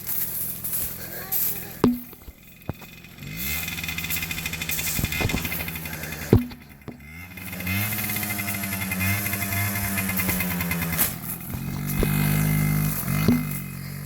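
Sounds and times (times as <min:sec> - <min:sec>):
small dirt bike engine revving: 0:02.5 - 0:14.0.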